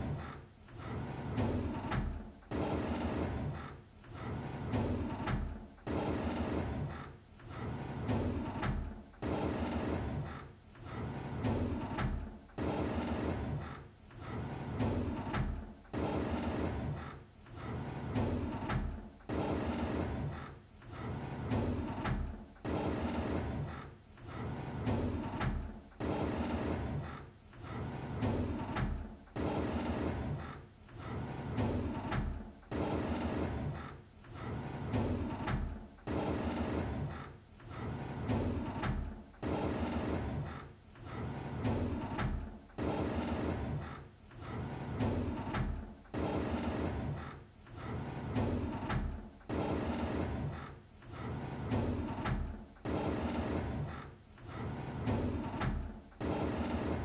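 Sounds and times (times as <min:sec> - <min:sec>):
drawer sliding open: 0:00.1 - 0:57.0.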